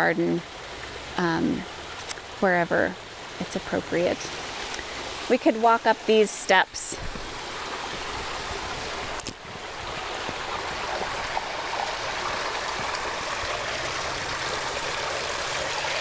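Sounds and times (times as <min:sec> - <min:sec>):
water splashing over rocks: 0:00.1 - 0:16.0.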